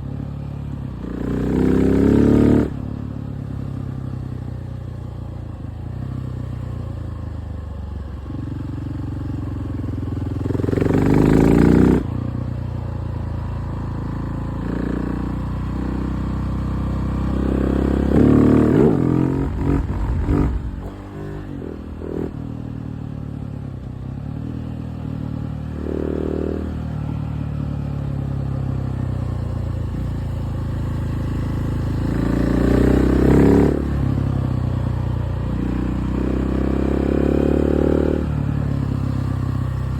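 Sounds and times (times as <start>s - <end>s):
motorcycle engine revving: 1.0s - 4.6s, 8.3s - 39.9s.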